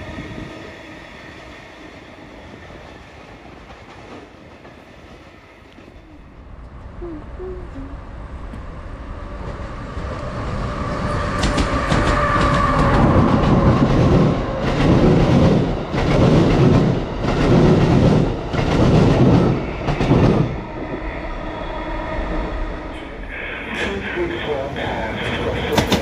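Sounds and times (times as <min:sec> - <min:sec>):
train passing on rails: 0:00.0 - 0:26.0.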